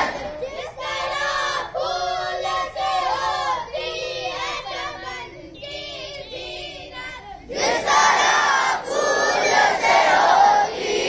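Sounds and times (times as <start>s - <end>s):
boy chanting a sung prayer: 0.0s - 10.8s.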